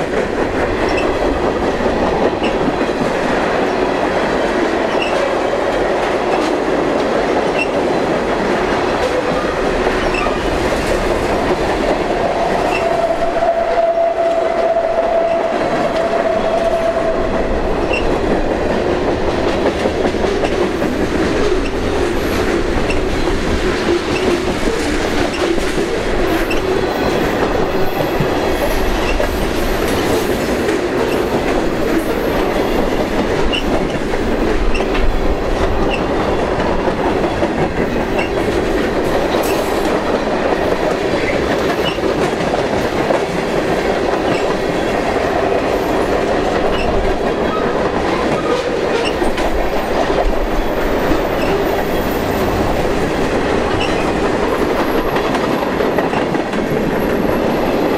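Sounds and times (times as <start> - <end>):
clickety-clack at rail joints: 0.0 - 57.9
train wheels rumbling on rails: 0.0 - 57.9.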